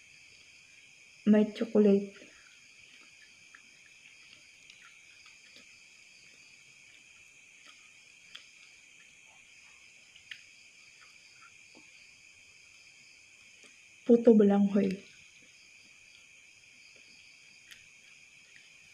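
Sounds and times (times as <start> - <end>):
night insects chirping: 0.0 - 18.9.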